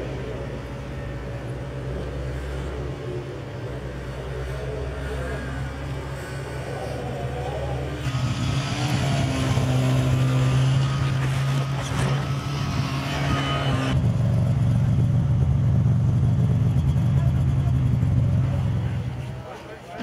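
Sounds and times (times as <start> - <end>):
snowmobile engines running: 0.0 - 20.0.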